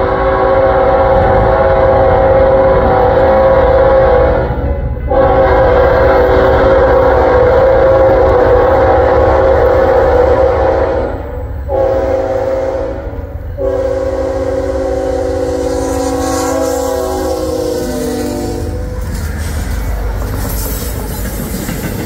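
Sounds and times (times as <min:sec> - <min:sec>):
locomotive air horn blasts: 0:00.0 - 0:19.0
engine and wheels rumbling: 0:00.0 - 0:22.0.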